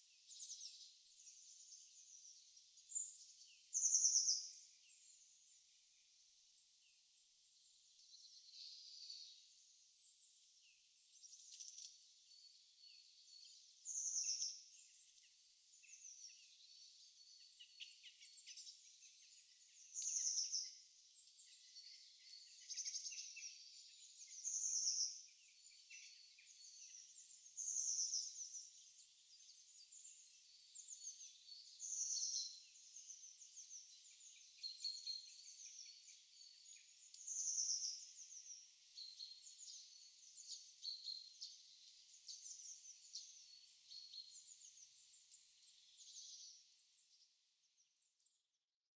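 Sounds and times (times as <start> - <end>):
bird bright high song: 0.0 - 48.6
faint bird chirps and twitters: 0.0 - 48.9.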